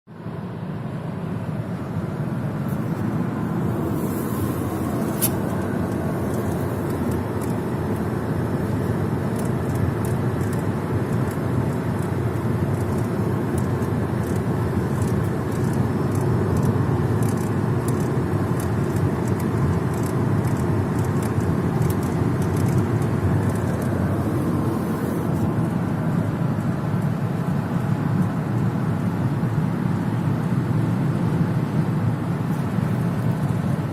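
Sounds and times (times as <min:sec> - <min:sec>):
car road noise: 0:00.1 - 0:33.9.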